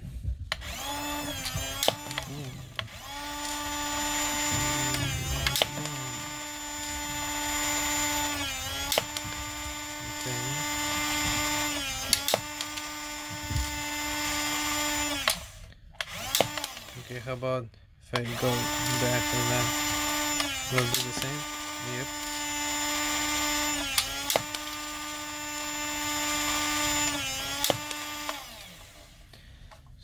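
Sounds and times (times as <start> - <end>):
small electric motor whining: 0.4 - 17.5, 18.1 - 29.4.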